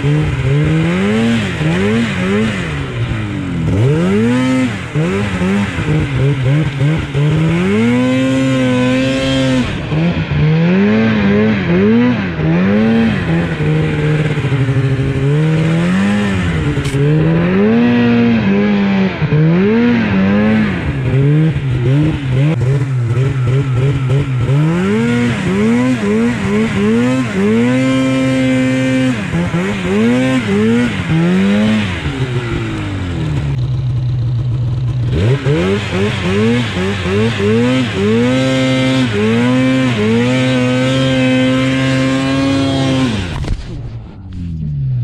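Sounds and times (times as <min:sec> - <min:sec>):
snowmobile engine revving: 0:00.0 - 0:45.0.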